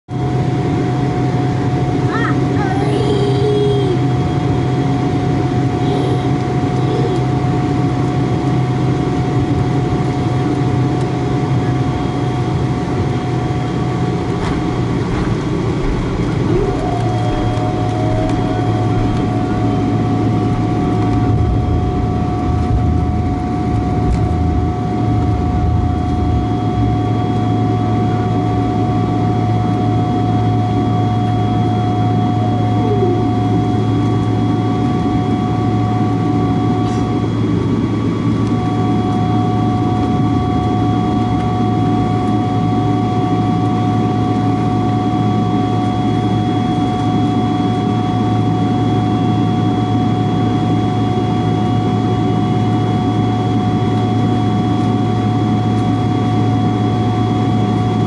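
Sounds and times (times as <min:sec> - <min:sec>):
steady engine whining tones: 0:00.1 - 0:58.0
aircraft cabin low hum: 0:00.2 - 0:58.0.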